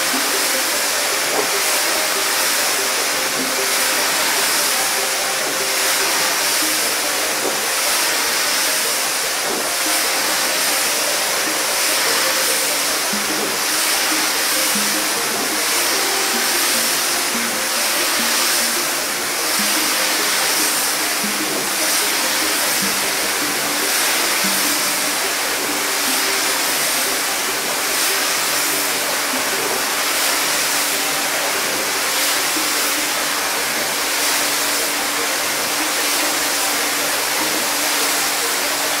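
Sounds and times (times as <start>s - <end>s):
pressure washer spraying water: 0.0s - 39.0s
soft background music: 0.0s - 39.0s.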